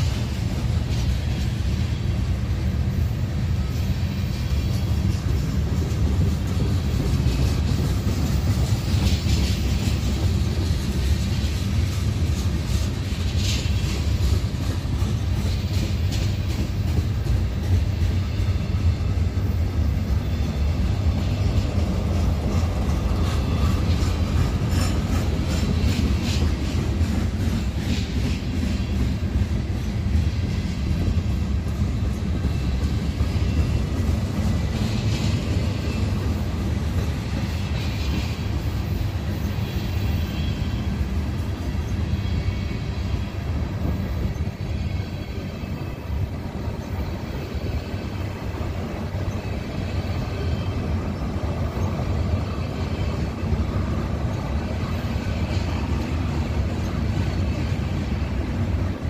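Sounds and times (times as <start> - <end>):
freight train rumbling: 0.0 - 59.0
wheels clicking over rail joints: 0.0 - 59.0.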